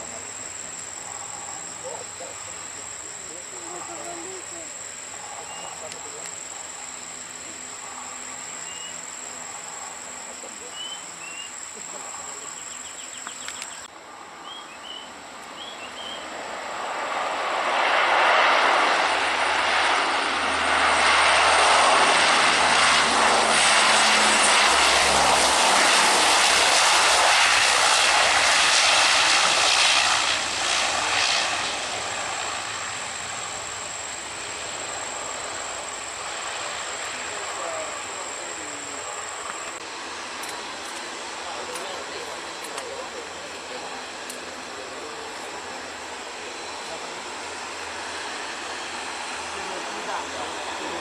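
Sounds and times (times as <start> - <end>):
jet engines passing: 0.0 - 51.0.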